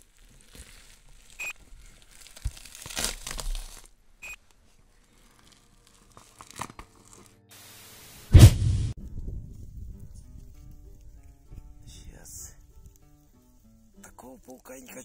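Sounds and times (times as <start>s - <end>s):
crackling and tearing noises: 0.0s - 7.5s, 9.5s - 11.8s, 12.4s - 15.0s.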